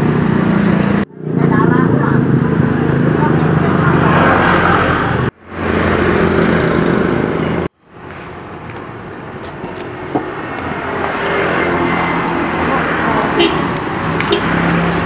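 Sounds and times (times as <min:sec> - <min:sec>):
motorcycle engines: 0:00.0 - 0:15.0.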